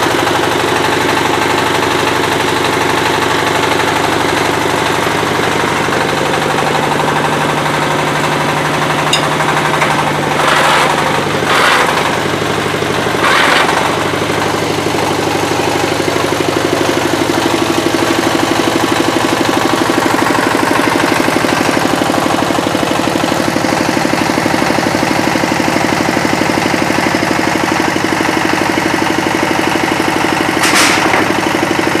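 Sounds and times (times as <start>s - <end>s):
hydraulic pump motor running: 0.0s - 32.0s.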